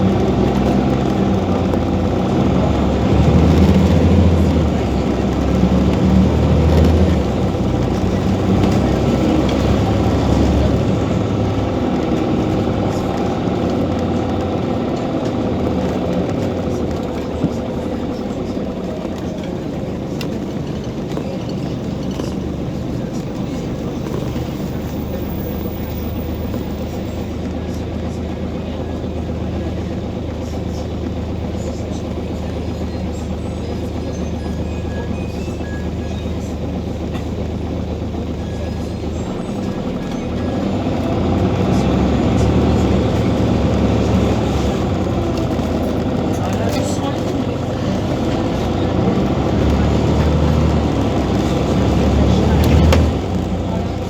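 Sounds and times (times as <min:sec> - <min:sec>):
bus engine humming: 0:00.0 - 0:54.0
general bus noise: 0:00.0 - 0:54.0.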